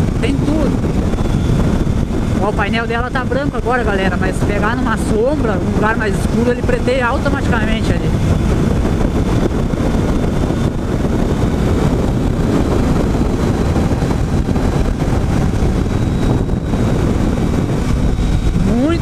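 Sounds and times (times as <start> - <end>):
motorcycle running: 0.0 - 19.0
wind noise on microphone: 0.0 - 19.0.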